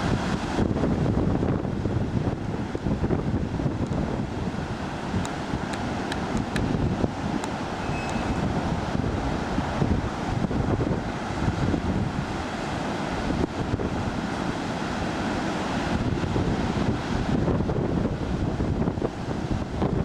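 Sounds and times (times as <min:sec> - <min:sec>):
wind buffeting microphone: 0:00.0 - 0:15.2, 0:15.8 - 0:20.0.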